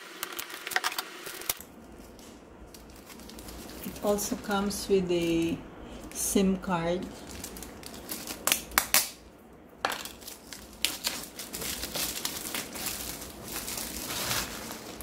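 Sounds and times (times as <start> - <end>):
plastic packaging crinkling: 0.0 - 6.2, 7.0 - 9.2, 9.9 - 15.0.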